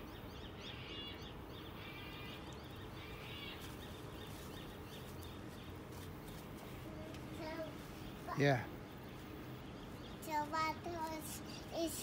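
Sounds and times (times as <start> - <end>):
outdoor background hum: 0.0 - 12.0
small birds chirping: 0.0 - 12.0.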